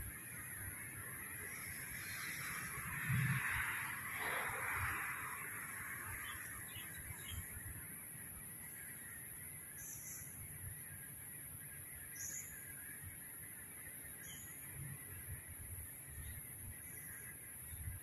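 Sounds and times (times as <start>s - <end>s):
outdoor ambient hiss: 0.0s - 18.0s.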